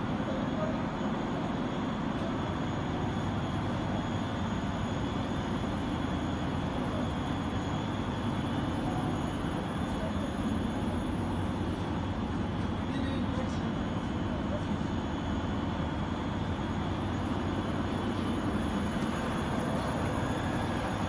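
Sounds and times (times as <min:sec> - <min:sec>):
factory machinery droning: 0:00.0 - 0:21.0.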